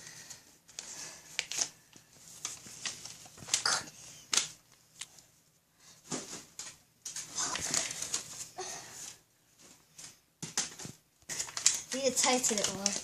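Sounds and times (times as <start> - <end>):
paper rustling and crinkling: 0.1 - 5.2, 6.1 - 13.0.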